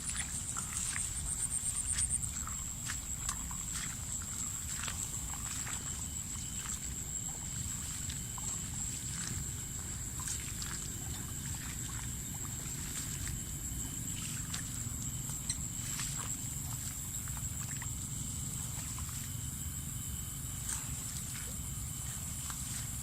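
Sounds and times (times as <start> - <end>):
low steady rumble: 0.0 - 23.0
night insects droning: 0.0 - 23.0.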